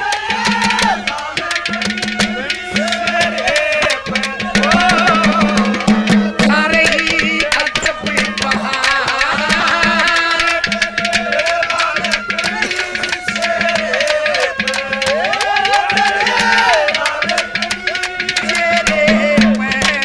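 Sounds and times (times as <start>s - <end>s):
rapid hand drum strokes: 0.0s - 20.0s.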